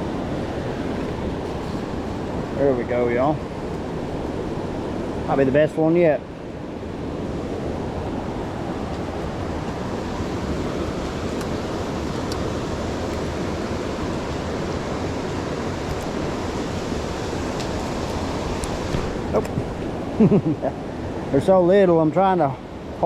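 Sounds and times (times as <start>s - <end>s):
creek water rushing over rocks: 0.0s - 20.2s.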